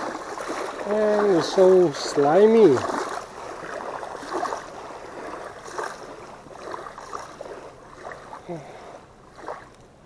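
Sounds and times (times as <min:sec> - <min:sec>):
small waves lapping on shore: 0:00.0 - 0:10.0.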